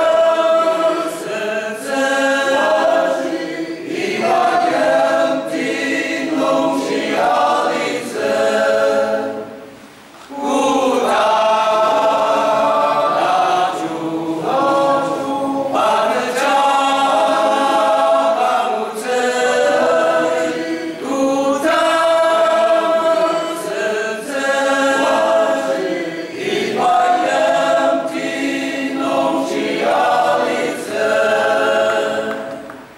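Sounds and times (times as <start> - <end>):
male choir singing a hymn: 0.0 - 9.7, 10.3 - 32.8.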